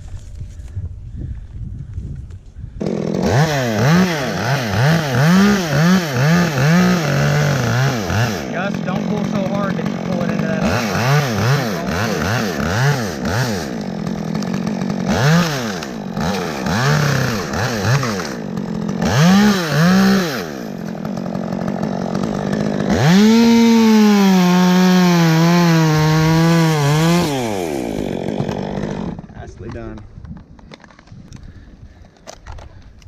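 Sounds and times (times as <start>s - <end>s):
chainsaw revving: 2.8s - 29.6s.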